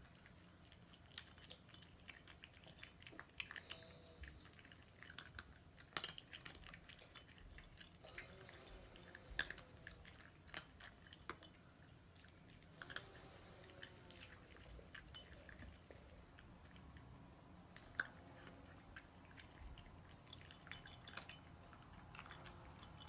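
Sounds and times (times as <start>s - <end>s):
cats crunching dry kibble: 0.0s - 23.0s.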